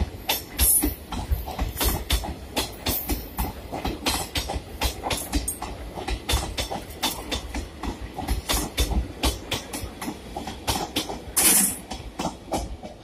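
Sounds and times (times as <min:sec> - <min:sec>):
train low rumble: 0:00.0 - 0:13.0
wheels clacking over rail joints: 0:00.0 - 0:13.0.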